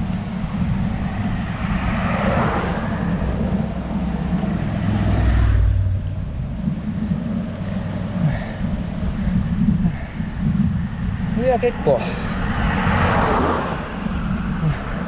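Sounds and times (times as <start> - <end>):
passing car tyre noise: 0.0 - 15.0
wind rumbling on microphone: 0.0 - 15.0.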